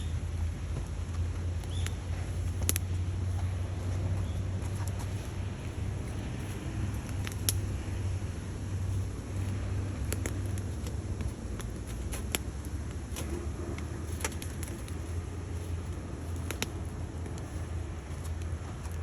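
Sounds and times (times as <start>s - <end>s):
firewood crackling and popping: 0.0s - 19.0s
stove low rumble: 0.0s - 19.0s.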